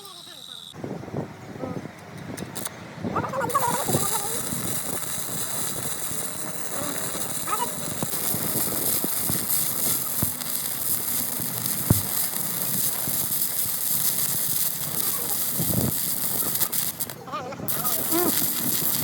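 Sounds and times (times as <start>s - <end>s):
steady high hiss: 0.0s - 0.8s, 3.6s - 19.0s.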